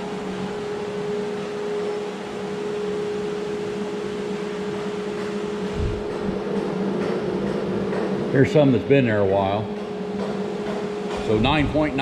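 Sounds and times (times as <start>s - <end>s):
constant drone: 0.0s - 12.0s
fans and dehumidifiers running: 0.0s - 12.0s.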